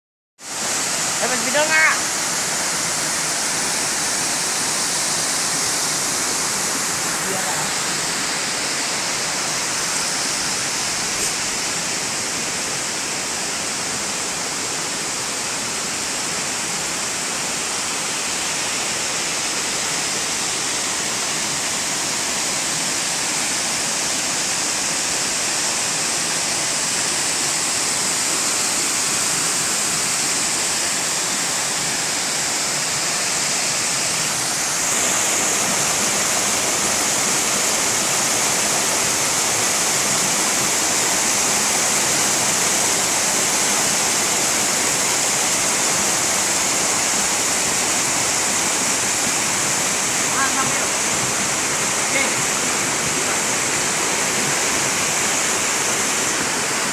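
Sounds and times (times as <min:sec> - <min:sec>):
waterfall rushing water: 0:00.4 - 0:56.9.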